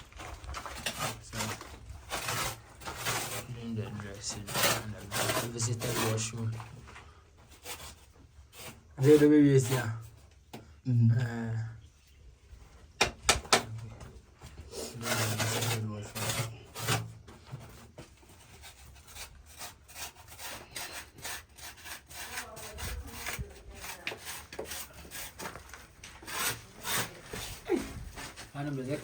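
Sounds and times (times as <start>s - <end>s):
tool scraping a rough surface: 0.0s - 10.4s, 14.4s - 29.0s.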